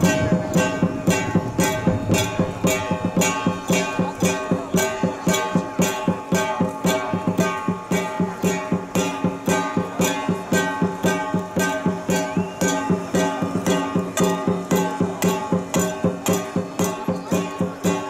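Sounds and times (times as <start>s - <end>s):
even percussive beat: 0.0s - 18.0s
sustained melody: 0.0s - 18.0s.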